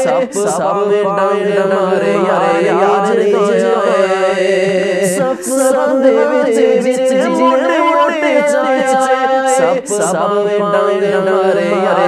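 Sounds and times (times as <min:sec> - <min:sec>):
man singing unaccompanied chant: 0:00.0 - 0:12.0.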